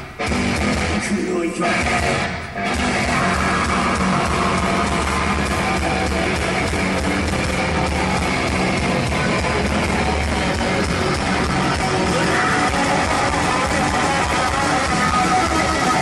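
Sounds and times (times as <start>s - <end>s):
bass: 0.0s - 16.0s
distorted electric guitars: 0.0s - 16.0s
drums: 0.0s - 16.0s.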